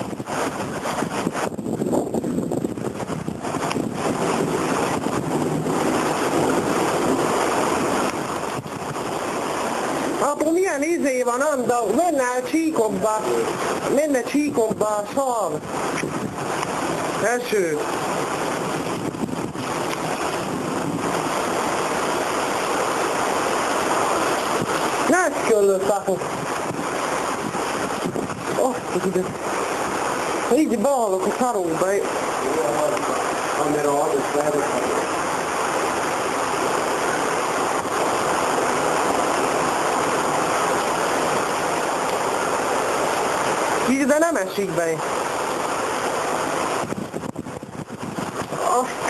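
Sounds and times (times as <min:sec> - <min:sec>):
rain and wind rushing: 0:00.0 - 0:49.0.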